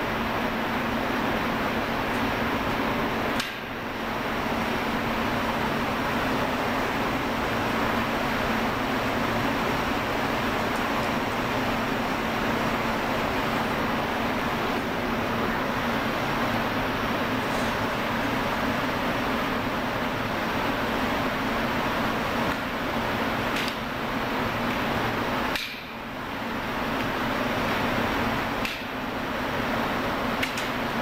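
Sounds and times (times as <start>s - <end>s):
ventilation and machinery roar: 0.0s - 31.0s.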